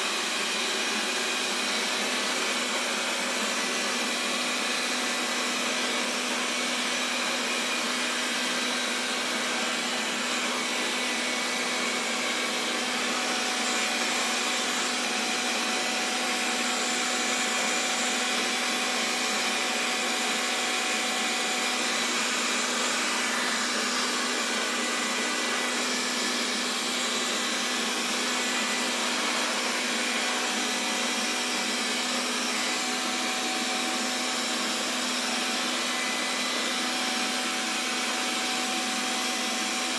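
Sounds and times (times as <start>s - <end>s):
robot vacuum running: 0.0s - 39.9s.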